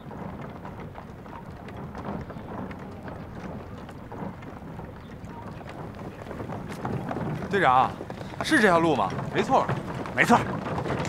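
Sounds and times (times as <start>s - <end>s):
footsteps on dirt road: 0.0s - 11.0s
horse hooves: 0.0s - 11.0s
wooden cart rolling: 0.0s - 11.0s.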